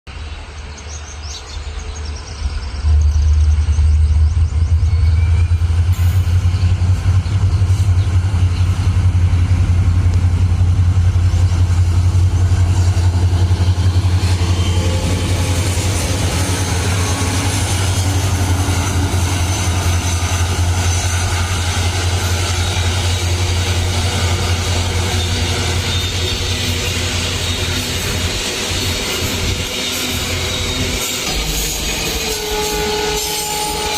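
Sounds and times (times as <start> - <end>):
diesel locomotive engine drone: 0.1 - 33.9.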